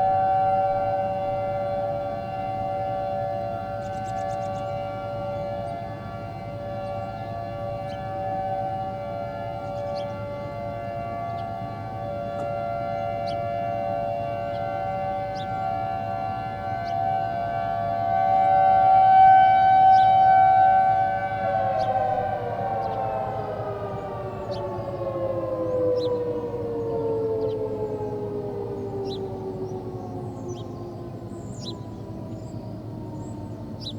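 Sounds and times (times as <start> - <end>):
tornado warning siren: 0.0 - 33.9.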